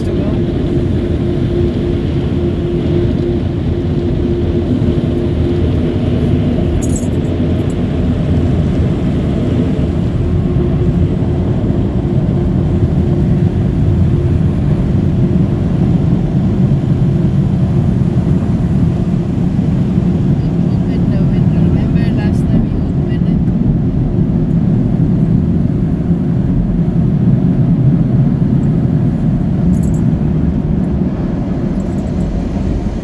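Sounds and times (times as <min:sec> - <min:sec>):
car wash machinery rumbling: 0:00.0 - 0:33.0
machinery hum: 0:00.0 - 0:33.0.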